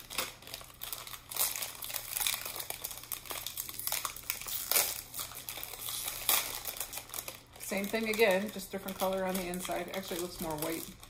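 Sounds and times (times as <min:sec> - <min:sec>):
snack wrapper crinkling: 0:00.0 - 0:11.0.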